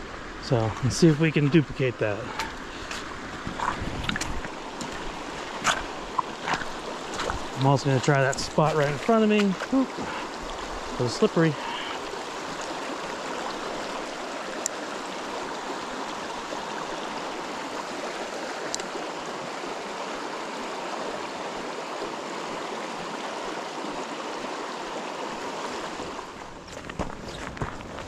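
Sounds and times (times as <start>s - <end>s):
river water rushing over rocks: 0.0s - 28.0s.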